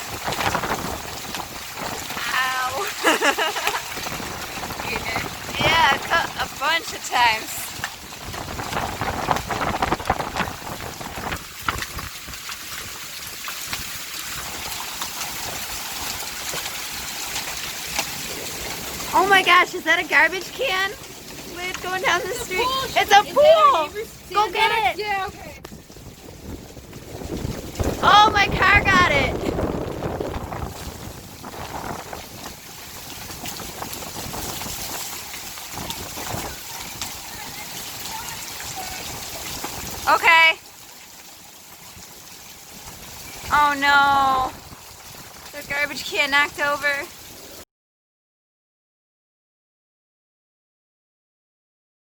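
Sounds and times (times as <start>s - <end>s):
wind rumbling on microphone: 0.0s - 40.2s, 41.2s - 47.6s
hail striking: 0.0s - 47.6s
heavy rain hissing: 0.0s - 47.6s.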